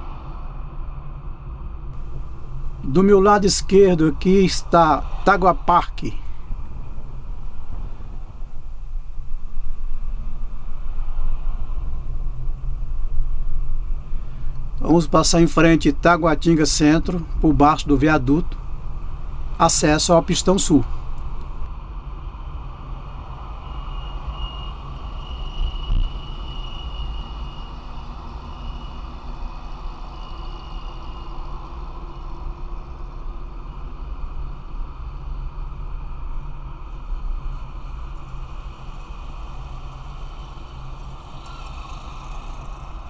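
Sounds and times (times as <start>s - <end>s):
car engine and tyre noise: 0.0s - 43.0s.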